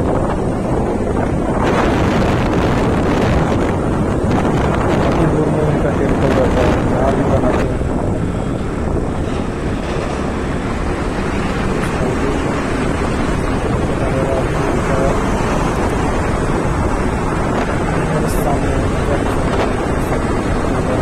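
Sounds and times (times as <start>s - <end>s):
scooter engine and road noise: 0.0s - 21.0s
wind buffeting microphone: 0.0s - 21.0s.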